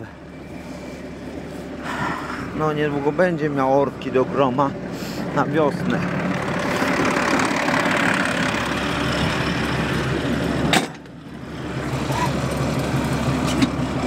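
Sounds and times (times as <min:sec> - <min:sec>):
tractor diesel engine: 0:00.0 - 0:14.0.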